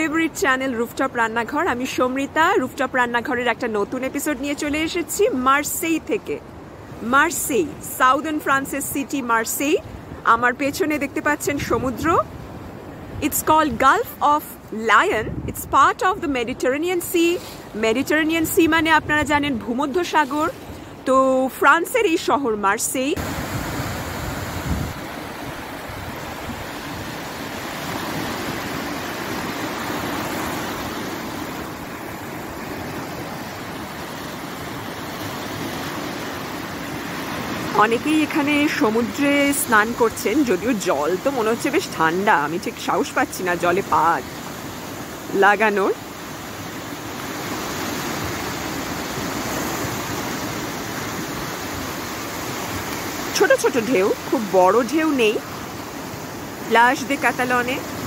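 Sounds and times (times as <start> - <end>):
waves washing up a beach: 0.0 - 58.0.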